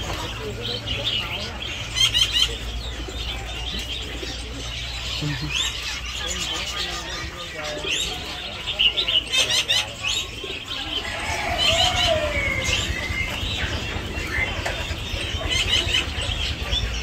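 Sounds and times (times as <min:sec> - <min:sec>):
animals chirping and tweeting: 0:00.0 - 0:17.0.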